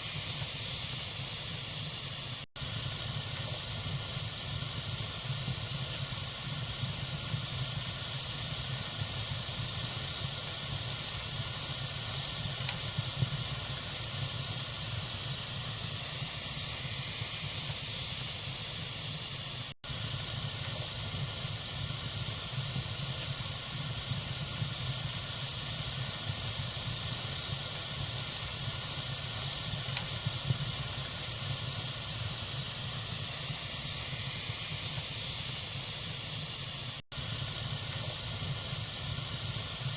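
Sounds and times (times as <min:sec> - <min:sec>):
fire crackles and pops: 0:00.0 - 0:39.9
wood fire hissing: 0:00.0 - 0:39.9.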